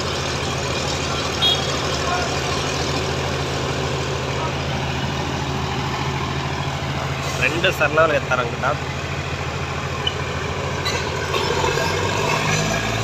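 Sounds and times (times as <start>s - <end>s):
heavy diesel engines under load: 0.0s - 13.0s.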